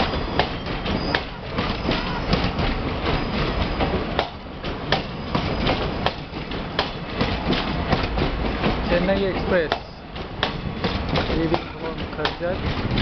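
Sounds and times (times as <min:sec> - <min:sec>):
low train rumble: 0:00.0 - 0:13.0
train wheels clicking over rail joints: 0:00.0 - 0:13.0.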